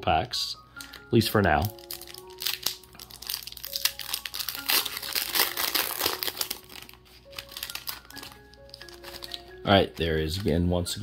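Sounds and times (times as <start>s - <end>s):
foil wrapper crinkling: 0.9s - 10.6s.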